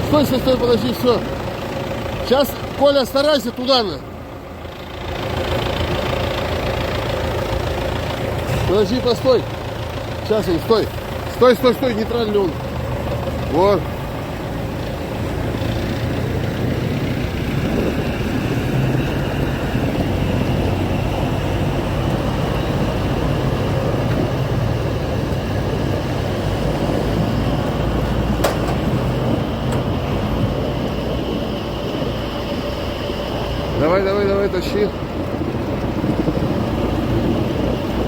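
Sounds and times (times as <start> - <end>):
tractor diesel engines droning: 0.0 - 38.0.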